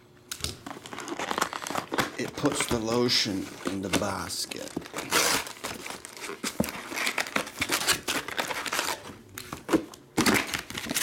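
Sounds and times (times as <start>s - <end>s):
foil packs crinkling: 0.6s - 11.0s.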